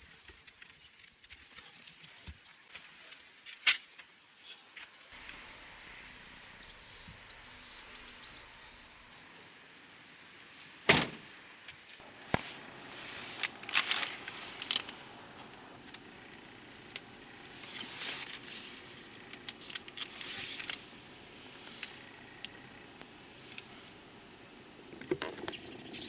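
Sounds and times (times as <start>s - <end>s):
faint steady hiss: 2.8s - 26.0s.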